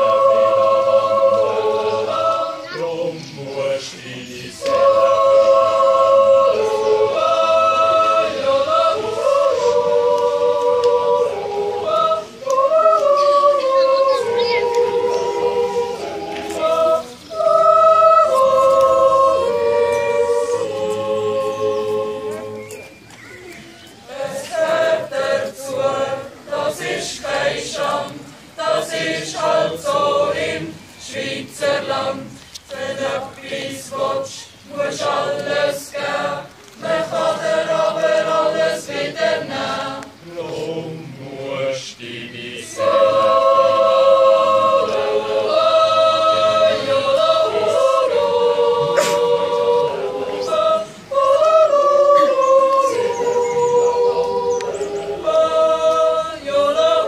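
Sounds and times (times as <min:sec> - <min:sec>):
young voices singing a cappella: 0:00.0 - 0:23.0, 0:23.9 - 0:57.0.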